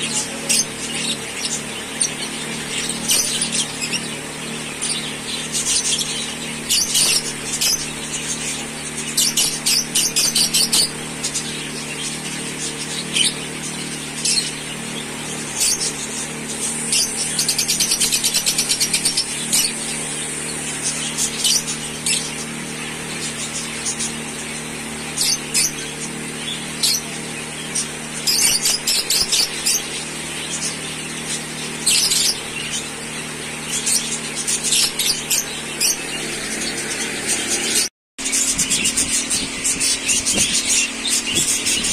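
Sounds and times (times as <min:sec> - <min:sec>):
lovebirds chirping: 0:00.0 - 0:41.9.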